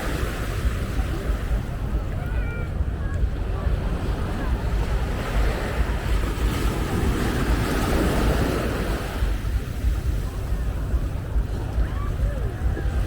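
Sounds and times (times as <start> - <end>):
wave breaking and washing in: 0.0 - 13.0
wind rumble on microphone: 0.0 - 13.0.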